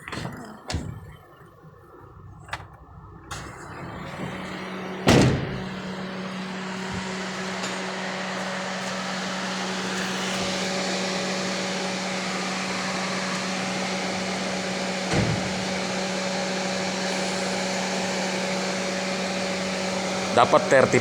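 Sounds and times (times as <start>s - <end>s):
engine idling low hum: 0.4s - 21.0s
blower fan rushing: 2.0s - 21.0s.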